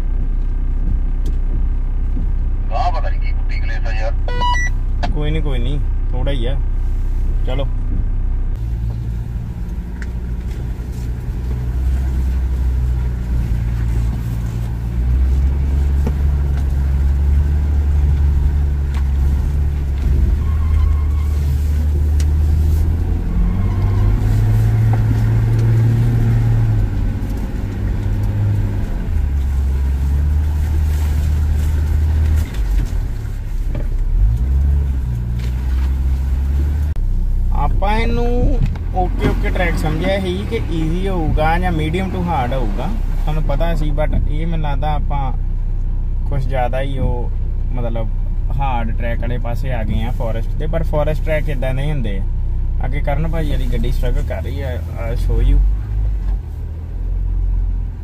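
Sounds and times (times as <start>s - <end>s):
vehicle engine labouring at low revs: 0.0s - 58.0s.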